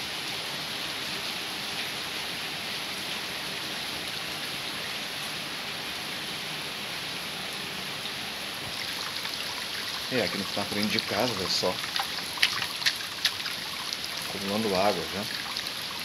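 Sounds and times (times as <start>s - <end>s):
heavy rain pouring: 0.0s - 16.0s
runoff water streaming: 0.0s - 16.0s.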